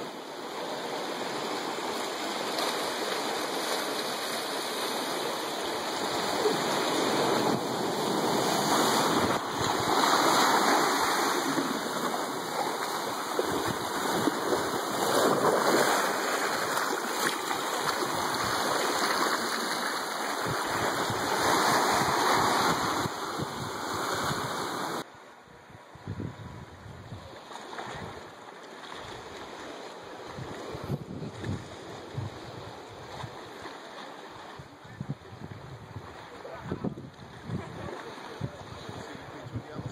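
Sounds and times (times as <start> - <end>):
ocean waves washing over sand: 0.0 - 39.9.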